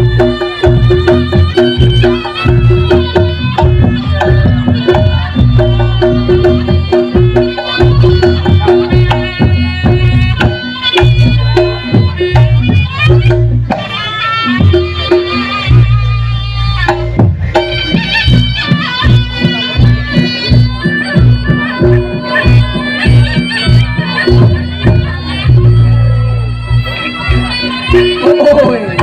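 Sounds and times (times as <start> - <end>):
drums beating busy rhythm: 0.0 - 29.0
reedy wind instrument melody: 0.0 - 29.0.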